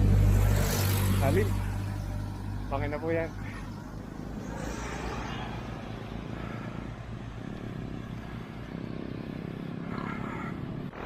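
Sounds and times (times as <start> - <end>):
road noise hiss: 0.0 - 11.0.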